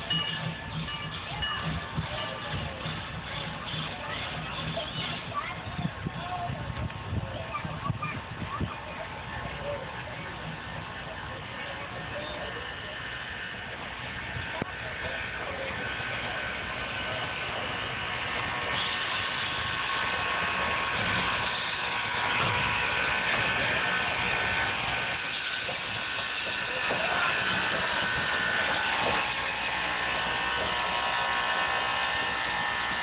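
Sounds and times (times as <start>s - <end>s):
faint crowd voices: 0.0s - 33.0s
train rumbling and hissing: 0.0s - 33.0s.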